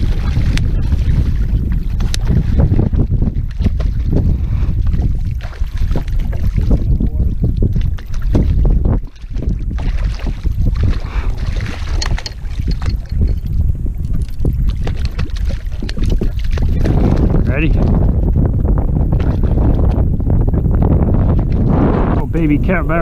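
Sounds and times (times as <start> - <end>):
fish thrashing splashing water: 0.0 - 18.4, 19.0 - 20.1
wind buffeting microphone: 0.0 - 23.0.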